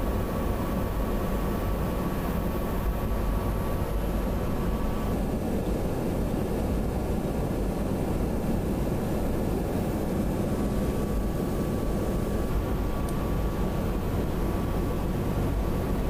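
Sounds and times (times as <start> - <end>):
jet cabin engine drone: 0.0 - 16.0.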